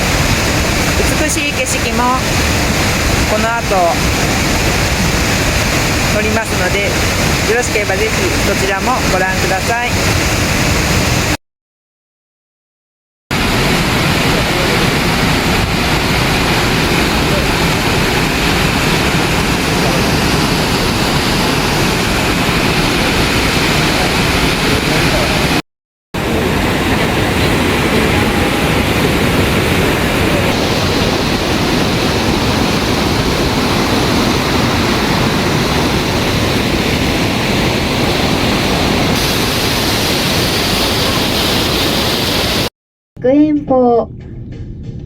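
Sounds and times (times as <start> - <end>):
waterfall rushing: 0.0 - 11.4, 13.3 - 25.6, 26.2 - 42.7.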